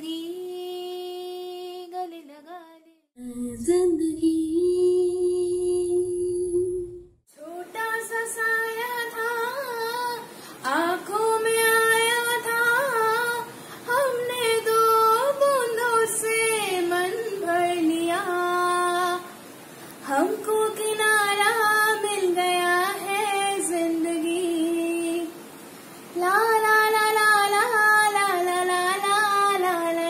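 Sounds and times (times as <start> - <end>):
girl singing unaccompanied: 0.0 - 30.0.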